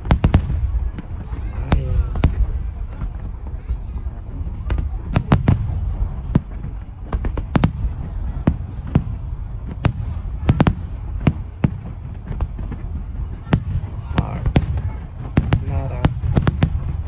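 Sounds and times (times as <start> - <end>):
continuous low rumble: 0.0 - 17.0
fireworks bangs and cracks: 0.0 - 17.0.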